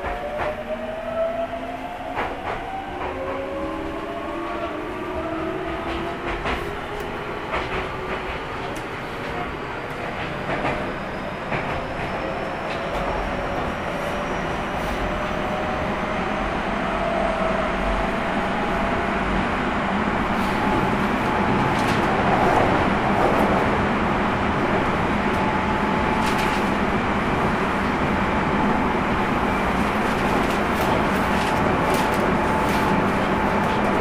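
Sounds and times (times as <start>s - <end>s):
train running noise: 0.0s - 34.0s.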